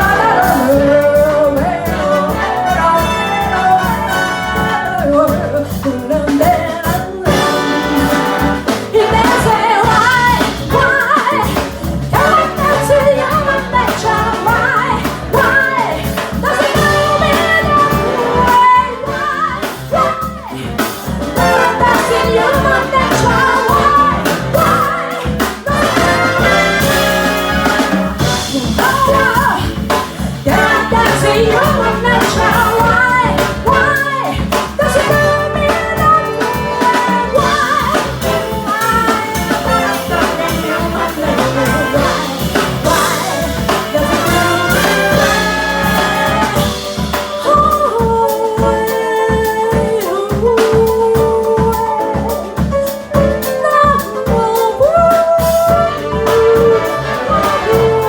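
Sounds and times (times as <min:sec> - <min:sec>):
jazz big band playing: 0:00.0 - 0:58.0.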